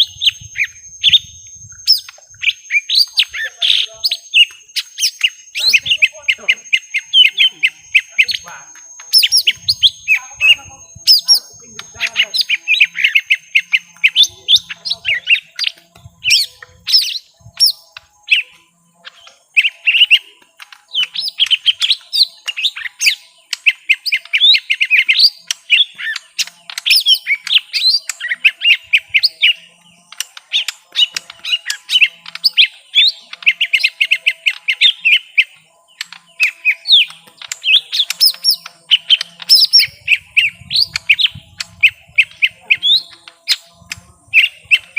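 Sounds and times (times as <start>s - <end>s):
birds chattering and whistling: 0.0s - 44.9s.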